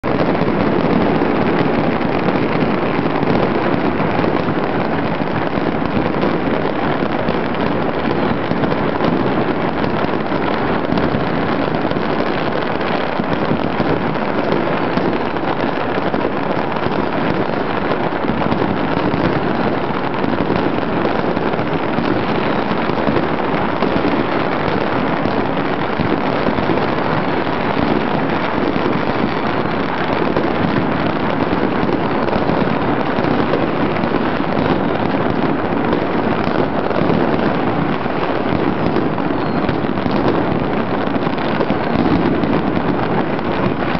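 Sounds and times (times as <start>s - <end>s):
fireworks popping and crackling: 0.0s - 43.9s.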